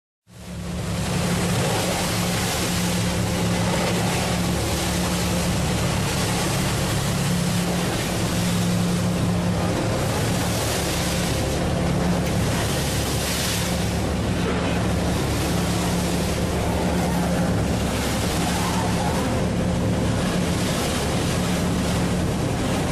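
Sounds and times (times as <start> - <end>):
boat engines droning: 0.3 - 22.9
wind and water rushing: 0.3 - 22.9.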